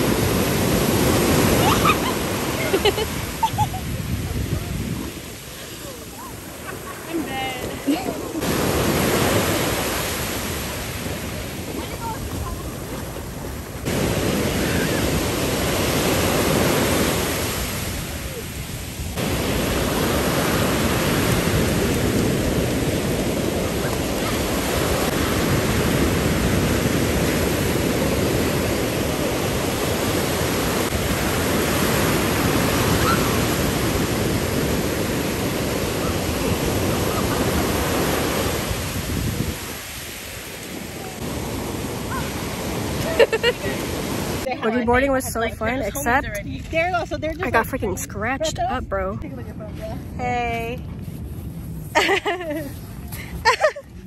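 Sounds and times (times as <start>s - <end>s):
ocean surf breaking: 0.0s - 50.2s
wind buffeting microphone: 0.0s - 54.0s.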